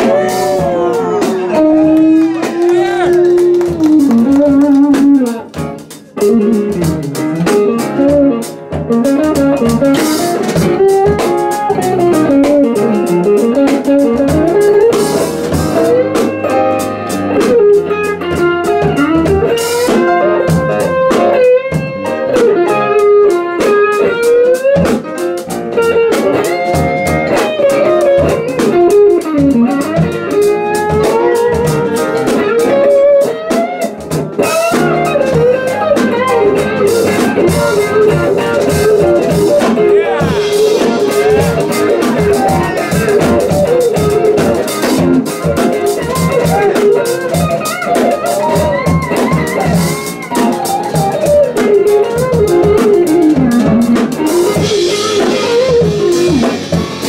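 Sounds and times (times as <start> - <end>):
electric bass: 0.0 - 23.2, 33.9 - 57.0
drum kit: 0.0 - 57.0
electric guitar lead: 0.0 - 57.0.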